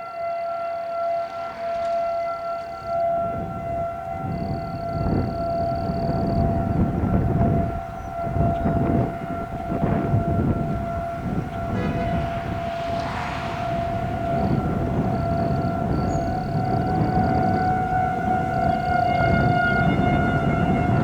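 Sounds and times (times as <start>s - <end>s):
warning siren steady tone: 0.0s - 21.0s
wind buffeting microphone: 0.3s - 21.0s.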